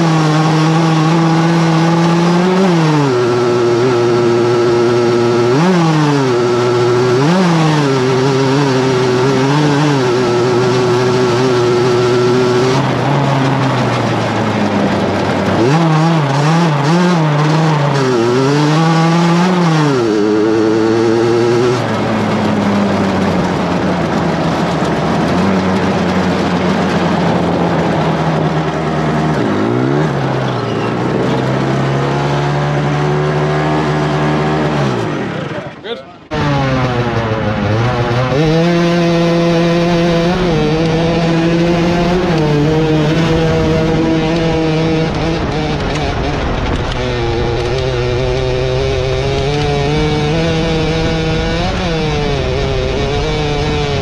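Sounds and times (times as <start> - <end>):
lawnmower engine revving: 0.0 - 54.0.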